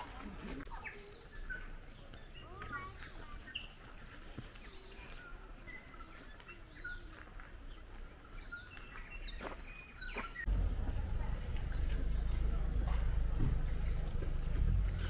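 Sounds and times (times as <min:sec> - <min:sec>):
small birds chirping: 0:00.0 - 0:14.8
faint outdoor background noise: 0:00.0 - 0:15.0.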